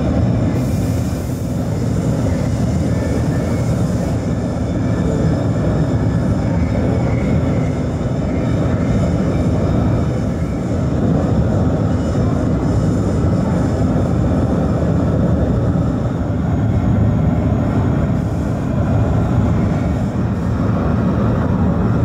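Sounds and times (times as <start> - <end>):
industrial machinery rumbling: 0.0 - 22.0.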